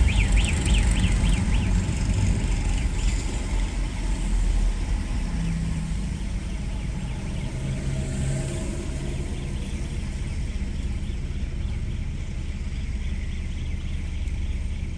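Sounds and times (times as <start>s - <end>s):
car driving on wet road: 0.0s - 14.9s.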